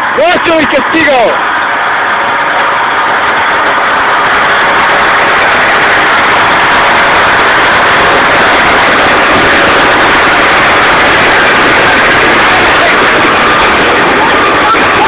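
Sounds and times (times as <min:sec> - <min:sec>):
fire truck engine and water pump: 0:00.0 - 0:15.0.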